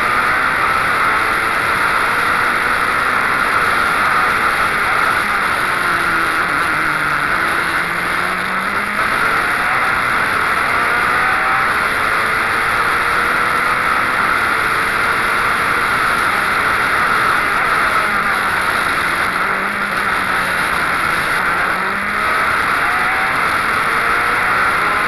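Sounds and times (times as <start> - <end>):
race car engine accelerating: 0.0 - 25.0
wind and road noise: 0.0 - 25.0.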